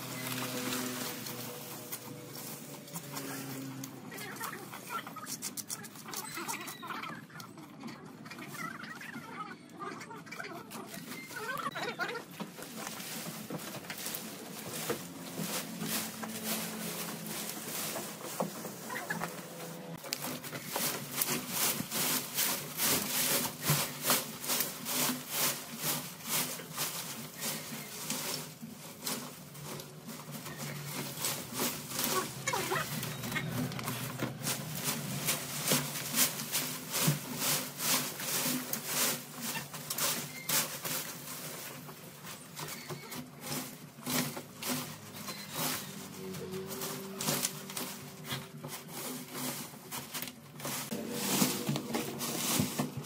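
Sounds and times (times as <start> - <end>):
rasping scraping strokes: 0.0 - 6.3, 12.5 - 53.0.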